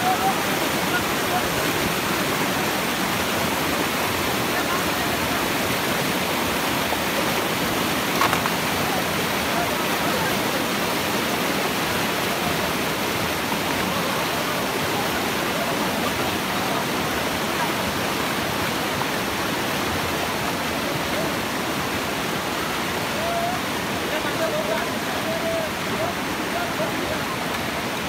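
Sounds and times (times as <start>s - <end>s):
floodwater rushing: 0.0s - 28.0s.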